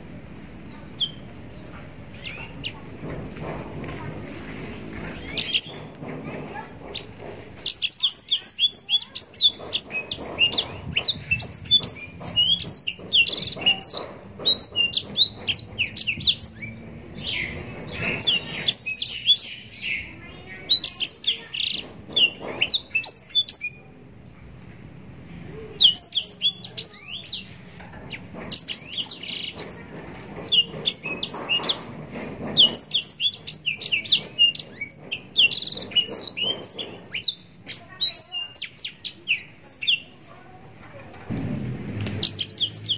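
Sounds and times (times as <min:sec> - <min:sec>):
canary singing: 0:00.6 - 0:03.0, 0:04.2 - 0:23.9, 0:25.5 - 0:40.6, 0:42.1 - 0:42.9.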